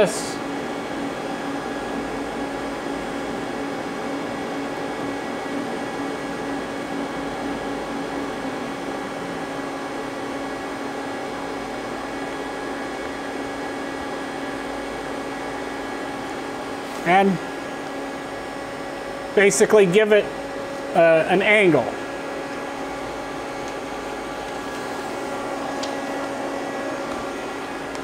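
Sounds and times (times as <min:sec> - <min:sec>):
lathe humming idle: 0:00.0 - 0:28.0.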